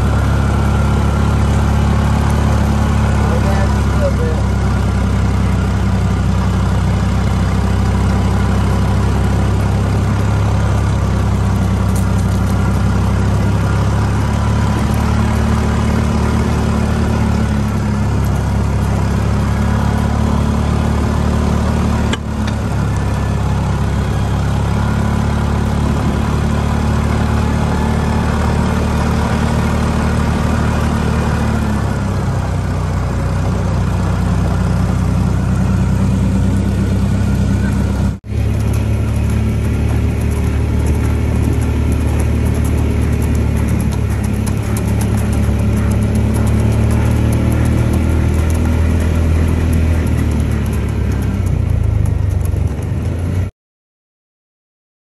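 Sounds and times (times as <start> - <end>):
vehicle engine running: 0.0 - 53.5.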